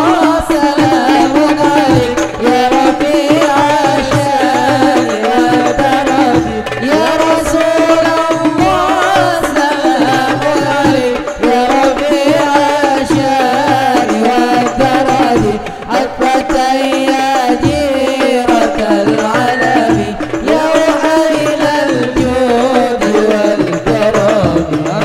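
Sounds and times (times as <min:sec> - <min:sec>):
frame drums beating: 0:00.0 - 0:25.0.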